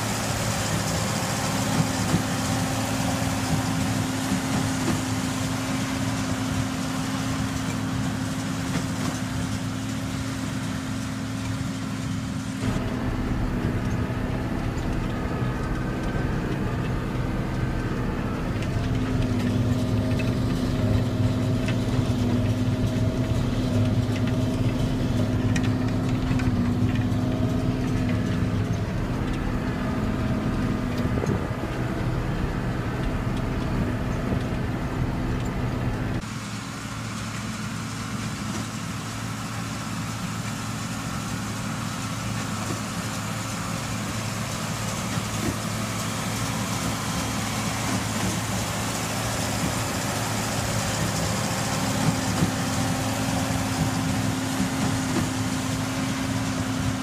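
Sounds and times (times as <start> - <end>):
tractor diesel engine humming: 0.0 - 57.0.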